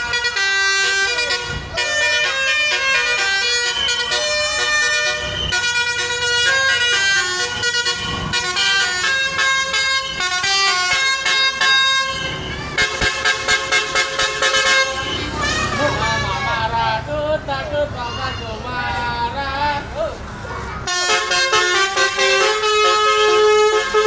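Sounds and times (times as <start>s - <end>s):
bus horn playing a tune: 0.0s - 16.8s, 20.8s - 24.0s.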